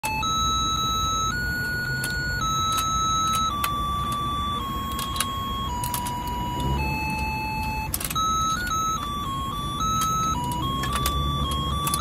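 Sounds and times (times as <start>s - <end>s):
electronic beeping tune: 0.0s - 12.0s
toy motor hum: 0.1s - 12.0s.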